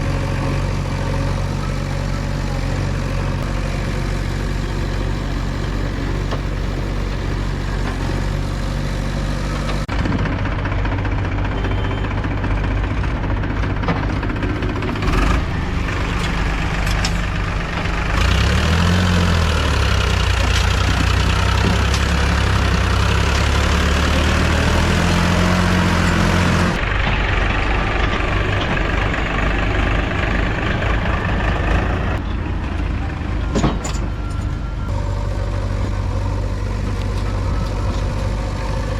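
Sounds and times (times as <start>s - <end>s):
diesel engine revving: 0.0s - 33.4s, 34.0s - 38.9s.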